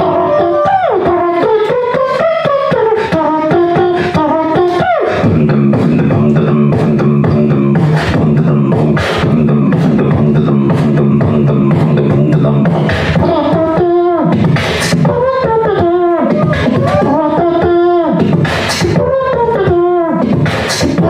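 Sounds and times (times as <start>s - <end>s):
person beatboxing: 0.0s - 21.0s.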